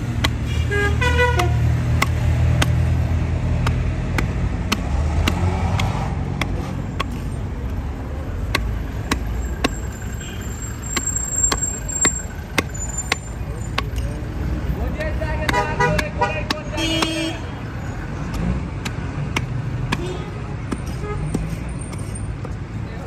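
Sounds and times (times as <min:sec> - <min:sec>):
hatchet chopping wood: 0:00.0 - 0:00.5, 0:01.2 - 0:10.1, 0:10.8 - 0:17.4, 0:18.1 - 0:22.7
road traffic rumble: 0:00.0 - 0:23.0.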